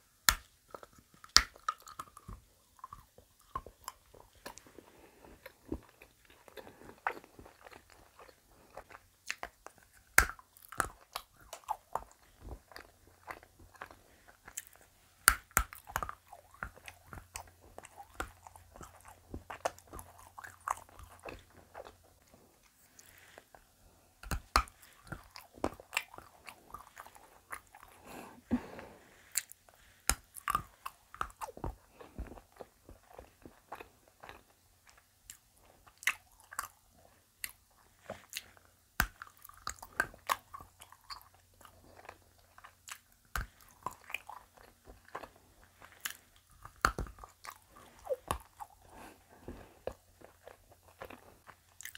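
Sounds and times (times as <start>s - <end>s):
biting and chewing chocolate: 0.0s - 51.9s.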